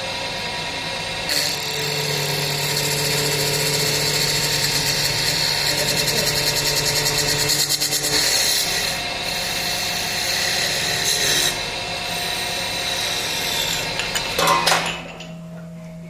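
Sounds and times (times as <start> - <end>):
machine whine: 0.0 - 16.0
lathe scraping wood: 1.3 - 14.4.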